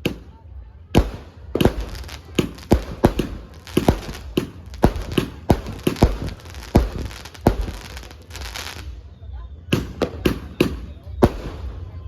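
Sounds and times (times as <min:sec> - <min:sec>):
fireworks bangs: 0:01.0 - 0:09.0, 0:09.7 - 0:12.0.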